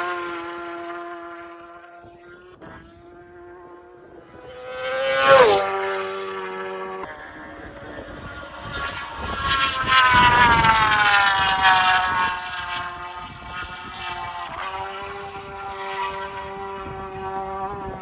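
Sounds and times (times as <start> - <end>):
racing motorcycle passing: 0.0 - 18.0.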